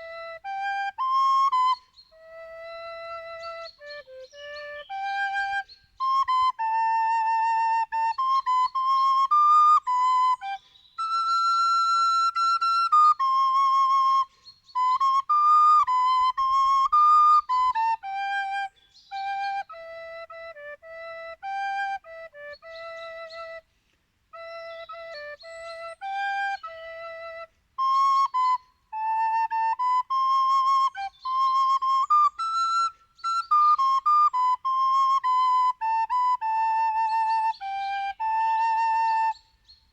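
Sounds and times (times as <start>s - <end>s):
solo flute melody: 0.0s - 39.9s.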